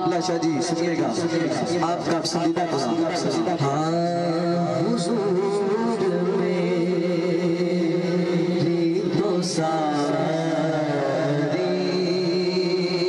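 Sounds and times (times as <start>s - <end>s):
men singing over loudspeakers: 0.0s - 13.0s
steady held drone: 0.0s - 13.0s.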